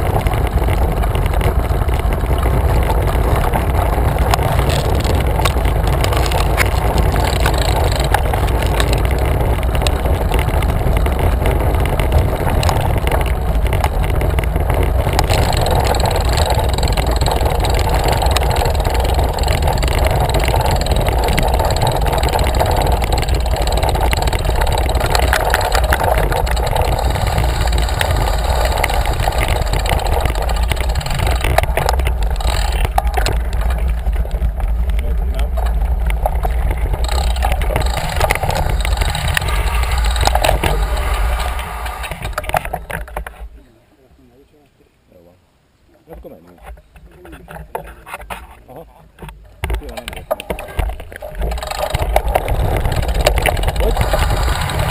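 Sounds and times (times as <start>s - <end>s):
wind rumbling over microphone: 0.0s - 43.6s, 46.6s - 54.9s.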